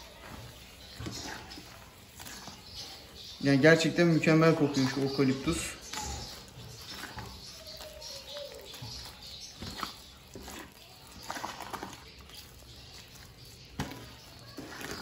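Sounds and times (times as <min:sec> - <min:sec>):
hand squelching wet gritty mix: 0:00.0 - 0:15.0.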